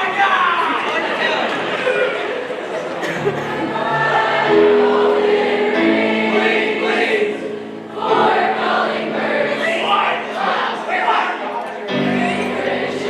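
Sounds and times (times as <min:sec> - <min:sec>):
choir singing held chords: 0:02.4 - 0:13.0.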